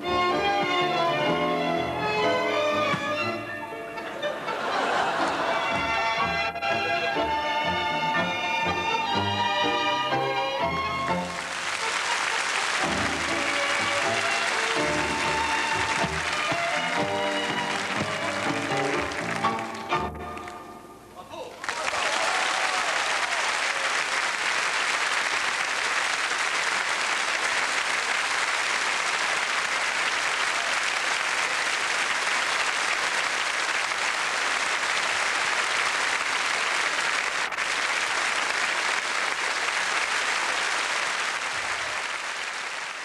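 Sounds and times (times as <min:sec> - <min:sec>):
large audience applauding: 0:04.0 - 0:20.6, 0:21.5 - 0:43.0.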